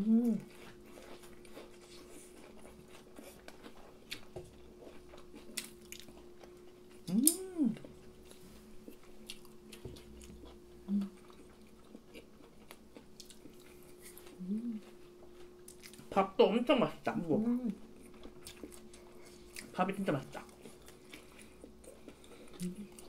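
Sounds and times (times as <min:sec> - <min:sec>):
faint steady hum: 0:00.0 - 0:23.0
person chewing fried food: 0:00.2 - 0:16.1, 0:17.8 - 0:19.8, 0:20.4 - 0:23.0.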